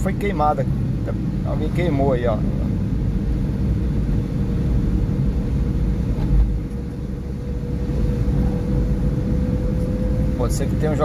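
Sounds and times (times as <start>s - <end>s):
car engine and tyre rumble: 0.0s - 11.0s
faint steady whine: 0.0s - 11.0s.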